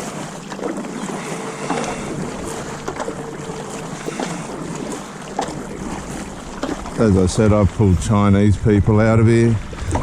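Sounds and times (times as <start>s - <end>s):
wind buffeting microphone: 0.8s - 10.0s.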